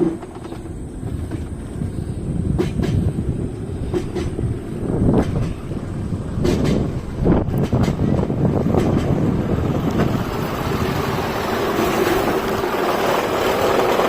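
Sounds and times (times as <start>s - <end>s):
rumble of moving ride: 0.0s - 14.0s
wind buffeting microphone: 0.0s - 14.0s.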